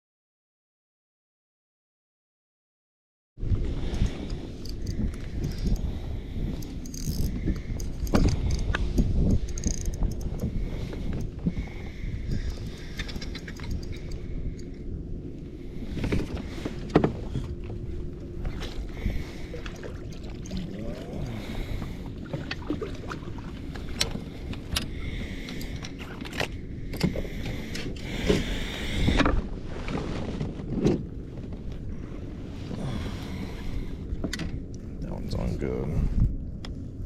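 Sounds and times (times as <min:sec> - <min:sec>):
steady low rumble: 0:03.4 - 0:37.0
water sloshing against hull: 0:03.4 - 0:37.0.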